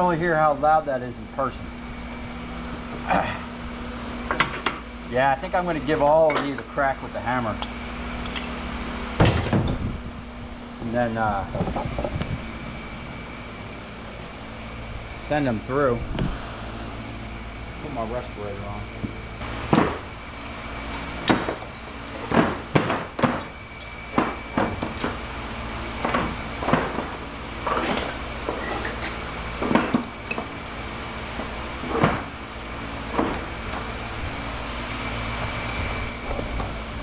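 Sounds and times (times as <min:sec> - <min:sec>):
steady mechanical hum: 0:00.0 - 0:37.0.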